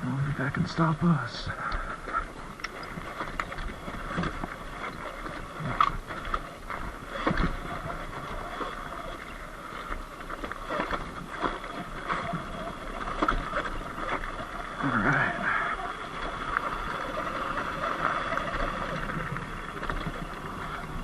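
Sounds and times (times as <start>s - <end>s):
tyres on dirt and stones: 0.0s - 21.0s
bike knocking over rough ground: 0.4s - 21.0s.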